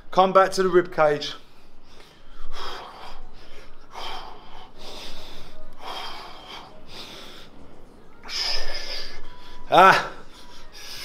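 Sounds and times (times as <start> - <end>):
man breathing hard: 1.4 - 11.0.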